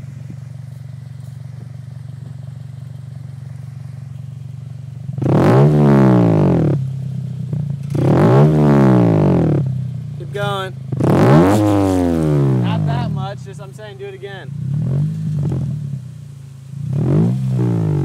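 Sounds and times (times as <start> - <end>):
car engine idling: 0.0 - 18.0
car engine revving: 0.0 - 18.0.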